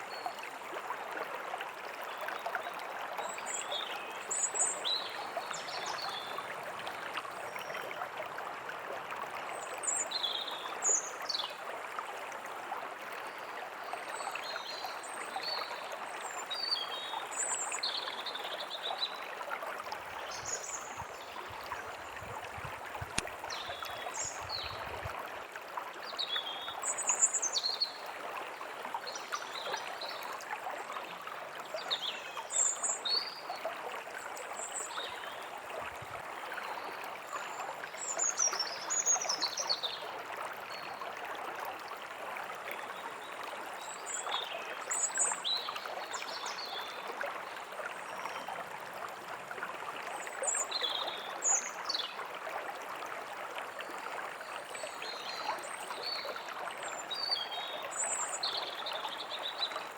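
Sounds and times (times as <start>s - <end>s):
stream running: 0.0s - 59.9s.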